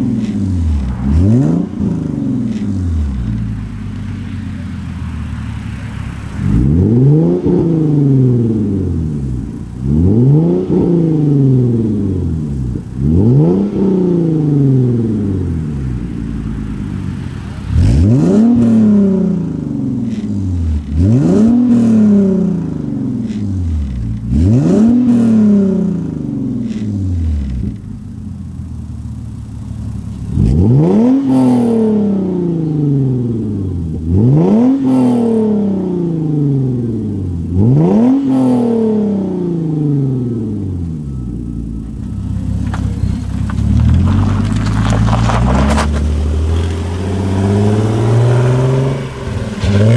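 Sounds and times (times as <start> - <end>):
car exhaust revving: 0.0 - 49.9.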